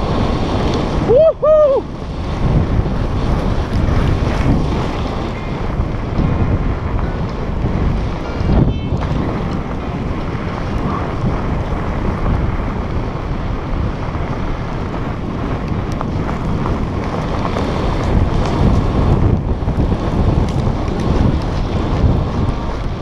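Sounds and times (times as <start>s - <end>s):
wheels rolling over gravel: 0.0s - 23.0s
wind buffeting microphone: 0.0s - 23.0s.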